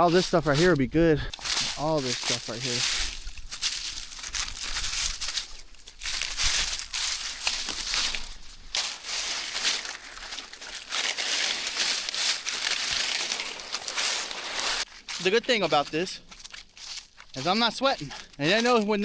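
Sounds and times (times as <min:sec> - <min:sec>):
dry brush rustling and crackling: 0:00.0 - 0:19.0.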